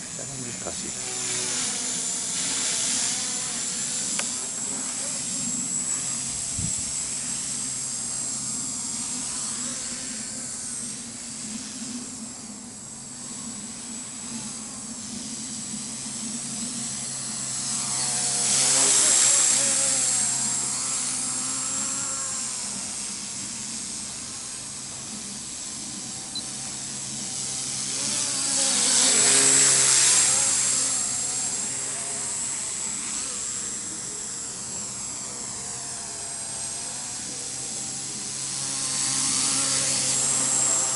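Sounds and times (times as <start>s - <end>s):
high motor whine: 0.0s - 40.9s
low rotor hum: 0.0s - 40.9s.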